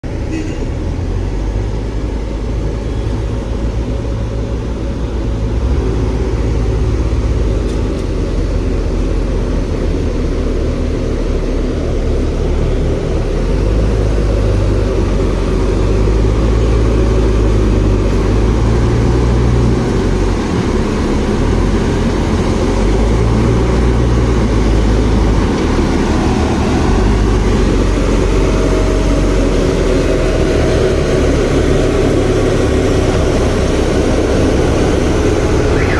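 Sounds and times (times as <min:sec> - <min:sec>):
heavy diesel engine rumbling: 0:00.0 - 0:35.9.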